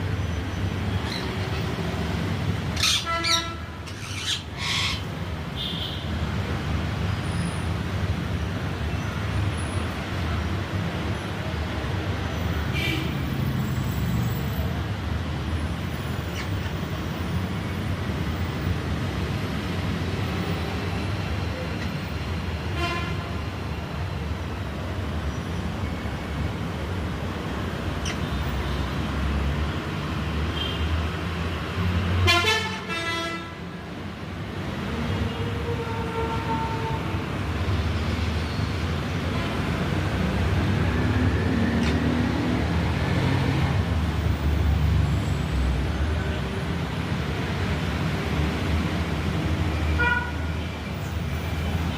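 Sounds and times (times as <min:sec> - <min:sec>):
city traffic rumble: 0:00.0 - 0:51.9.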